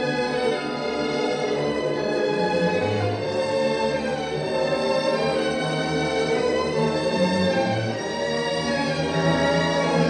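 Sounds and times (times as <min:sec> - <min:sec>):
orchestral string music: 0:00.0 - 0:10.0.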